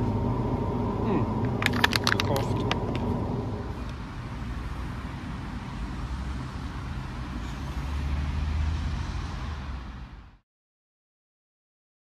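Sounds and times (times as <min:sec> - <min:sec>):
road vehicle rumble and hiss: 0:00.0 - 0:10.4.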